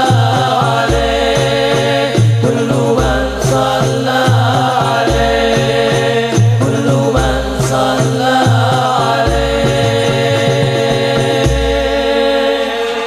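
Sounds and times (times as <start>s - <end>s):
frame drums beating: 0.0s - 12.2s
men singing together: 0.0s - 13.0s.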